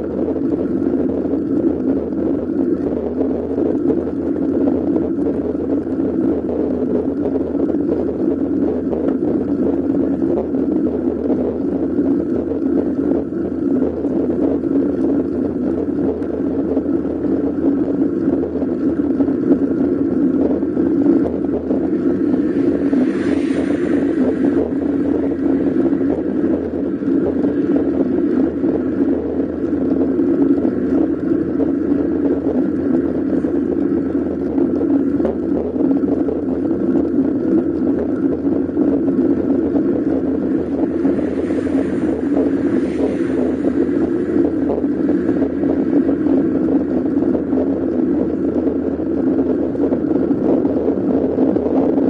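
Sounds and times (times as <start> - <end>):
wind noise on microphone: 0.0 - 52.0.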